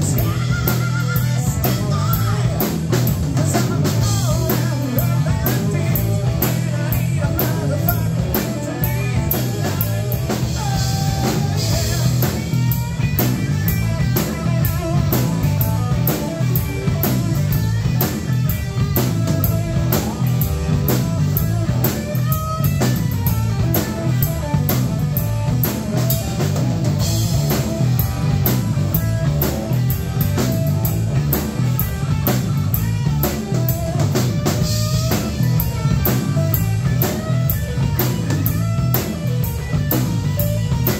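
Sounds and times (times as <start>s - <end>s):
drum kit: 0.0s - 40.9s
electric bass: 0.0s - 40.9s
electric guitar: 0.0s - 40.9s.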